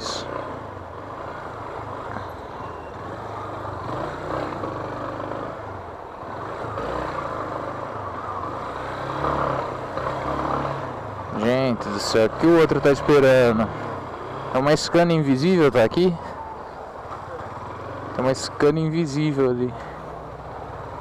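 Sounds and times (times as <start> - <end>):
traffic engines: 0.0 - 21.0.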